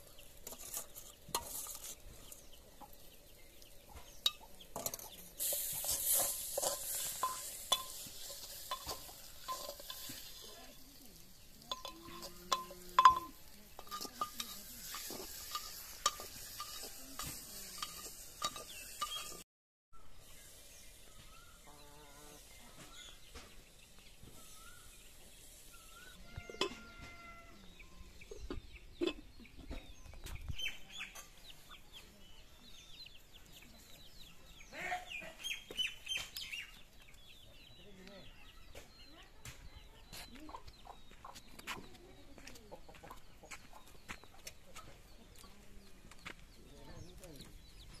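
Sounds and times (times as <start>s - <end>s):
chickens clucking: 0.0s - 19.4s, 26.1s - 48.0s
small birds chirping: 0.0s - 48.0s.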